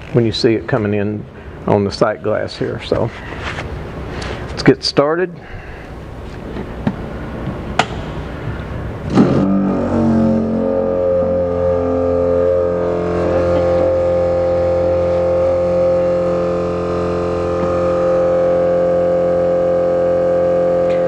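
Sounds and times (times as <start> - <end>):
pump electric hum: 0.0 - 21.0.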